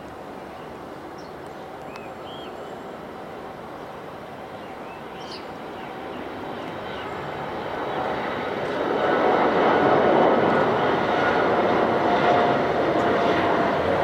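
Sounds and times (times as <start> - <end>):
jet engine roar: 0.0 - 14.0.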